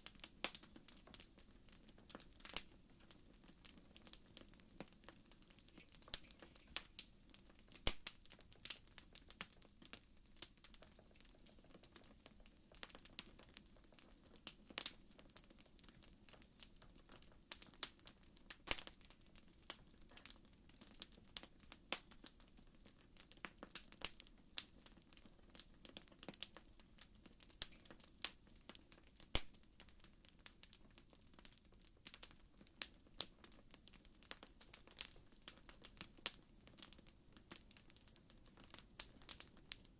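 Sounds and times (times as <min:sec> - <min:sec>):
faint low hiss: 0:00.0 - 0:39.9
wood fire crackling: 0:00.0 - 0:39.9.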